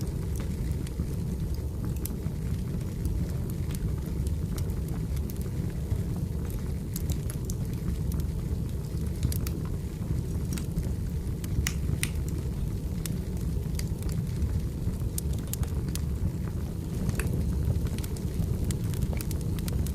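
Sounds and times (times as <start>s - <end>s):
firewood crackling and popping: 0.0s - 19.9s
low rumble of flames: 0.0s - 19.9s.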